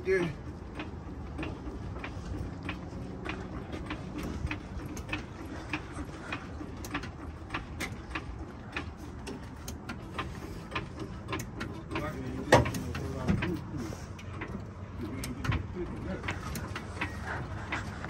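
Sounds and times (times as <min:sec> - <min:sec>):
sharp mechanical clicks: 0:00.6 - 0:18.0.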